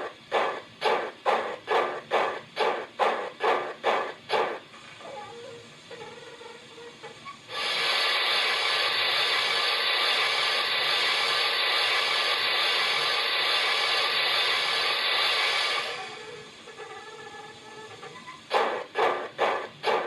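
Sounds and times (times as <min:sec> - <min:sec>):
steam hiss: 0:00.0 - 0:20.0.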